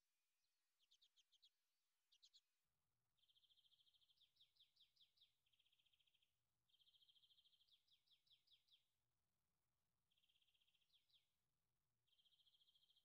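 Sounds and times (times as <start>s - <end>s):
faint songbird singing: 0.0s - 13.0s.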